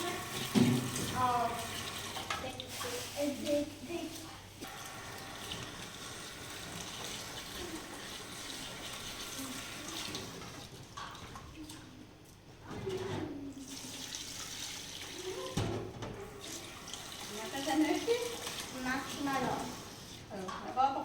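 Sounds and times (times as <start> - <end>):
water running and splashing: 0.0 - 12.0, 13.6 - 20.4.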